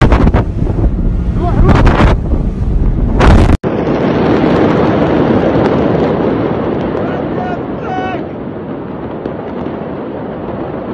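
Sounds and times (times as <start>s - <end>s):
explosion rumble: 0.0s - 10.9s
steady rushing noise: 0.0s - 10.9s
wind buffeting microphone: 0.0s - 10.9s.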